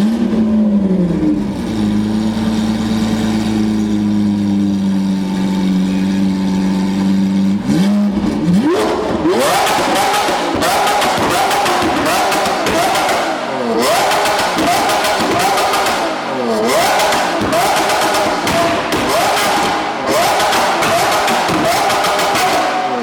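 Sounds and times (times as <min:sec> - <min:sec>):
sports car engine accelerating: 0:00.0 - 0:23.0.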